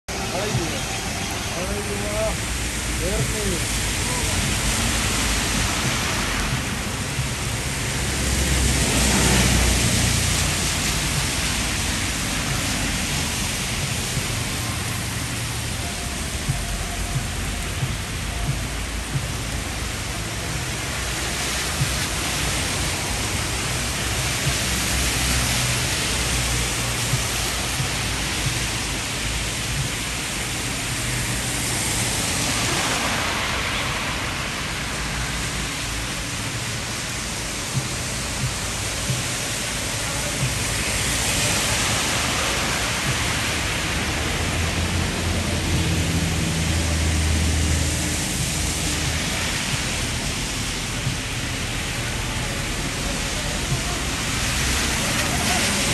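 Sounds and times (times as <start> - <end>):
cars passing on wet road: 0.1 - 55.9
heavy rain on pavement: 0.1 - 55.9.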